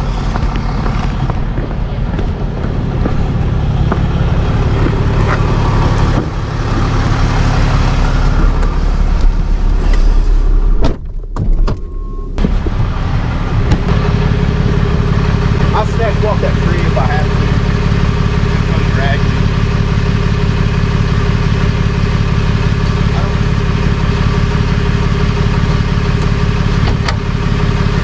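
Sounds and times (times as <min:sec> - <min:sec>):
tow truck engine running: 0:00.0 - 0:10.8, 0:12.0 - 0:28.0.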